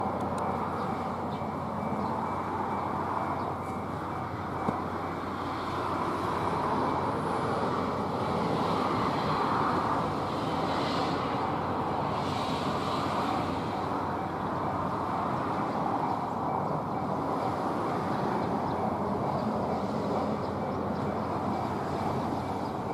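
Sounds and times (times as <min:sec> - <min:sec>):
express train rumbling: 0:00.0 - 0:22.9.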